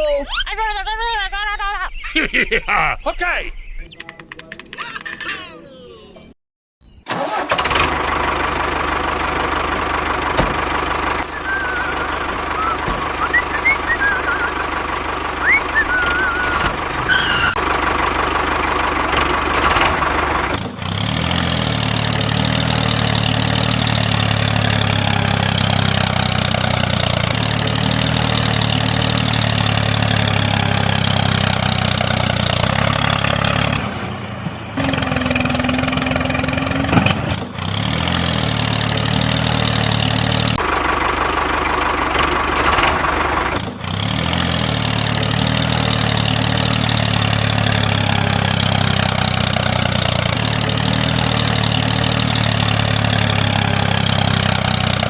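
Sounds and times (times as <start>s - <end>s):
small tractor engine running: 3.8s - 6.4s, 7.1s - 55.0s.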